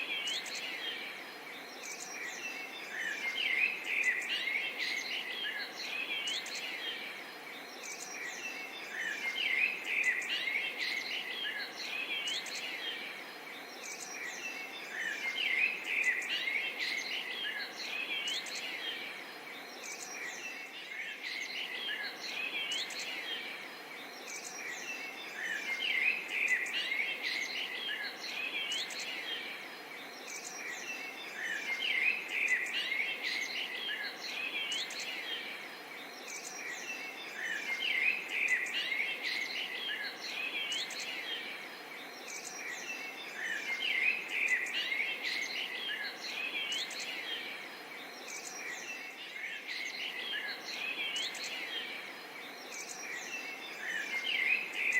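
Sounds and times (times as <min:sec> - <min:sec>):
birds chirping and twittering: 0:00.0 - 0:54.9.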